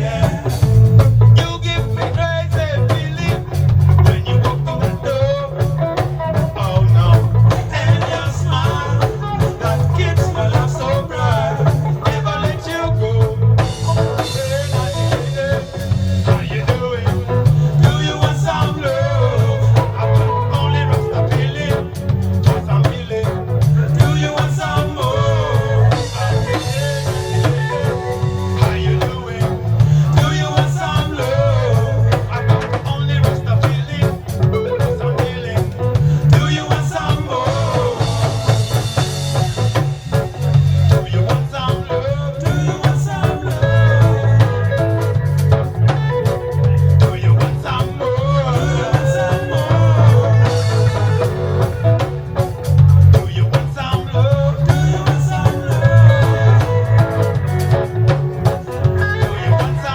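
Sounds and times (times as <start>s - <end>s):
heavy bass line: 0.0s - 59.9s
man singing lead vocals: 0.0s - 59.9s
reggae band playing: 0.0s - 59.9s.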